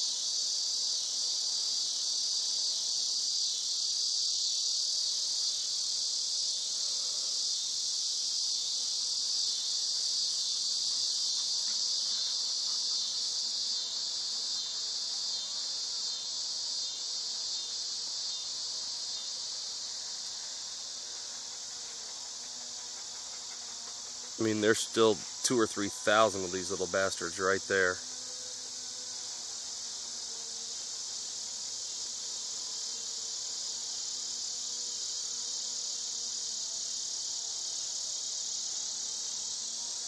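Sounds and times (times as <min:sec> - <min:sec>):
high-pitched insect chorus: 0:00.0 - 0:40.0
honeybees buzzing: 0:00.0 - 0:40.0.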